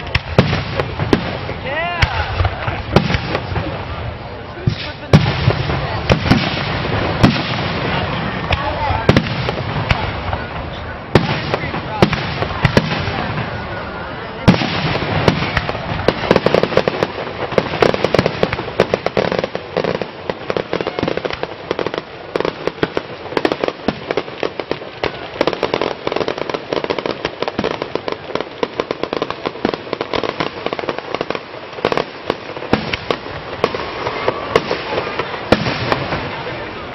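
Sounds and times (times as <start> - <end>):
fireworks crackling and popping: 0.0 - 36.9
loud firework reports: 0.0 - 36.9.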